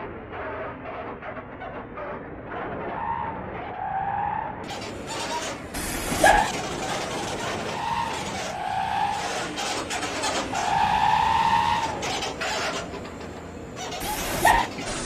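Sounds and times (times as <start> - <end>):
bus vehicle noise: 0.0 - 15.0.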